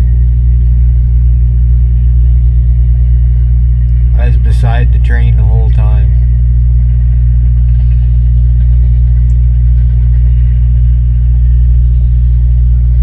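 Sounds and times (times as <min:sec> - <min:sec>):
car interior rumble at speed: 0:00.0 - 0:13.0.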